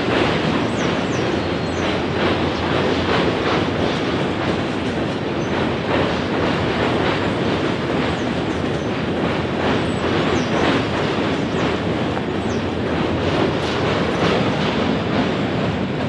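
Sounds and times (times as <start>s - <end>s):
train wheels rumbling on rail: 0.0s - 16.0s
wheels clacking over rail joints: 0.0s - 16.0s.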